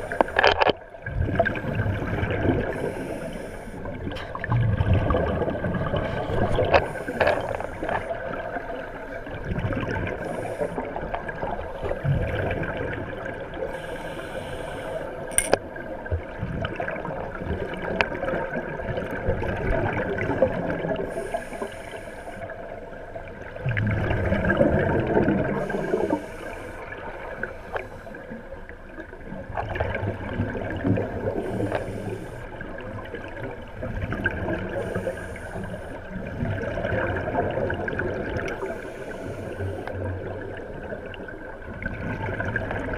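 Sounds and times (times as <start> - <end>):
underwater breath bubbles gurgling: 0.0 - 42.9.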